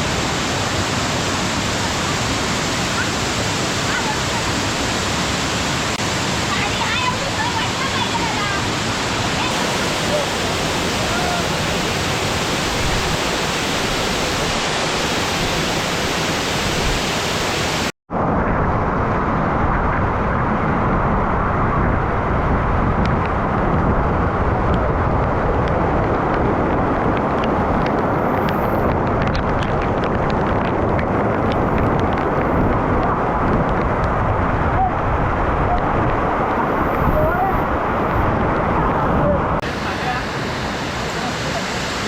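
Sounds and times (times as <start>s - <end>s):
waterfall rushing: 0.0s - 18.0s, 23.4s - 42.0s.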